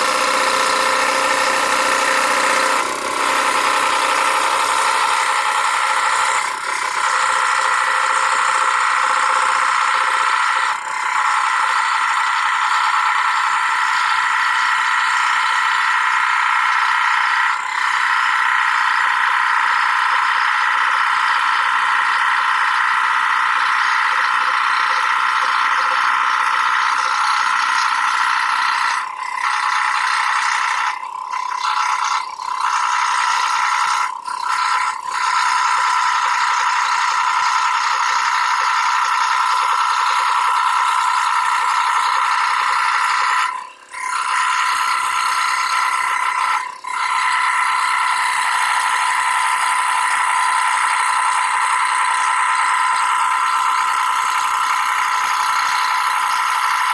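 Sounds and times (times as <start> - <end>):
scroll saw rattling buzz: 0.0 - 56.9.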